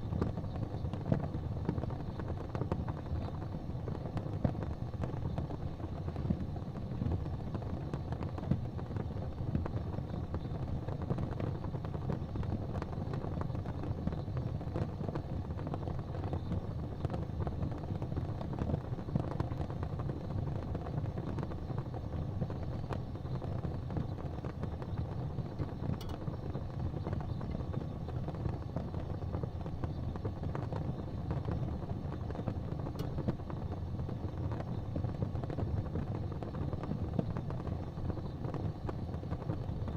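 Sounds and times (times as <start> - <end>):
fire crackling in a fireplace: 0.0 - 39.9
fire popping: 0.0 - 39.9.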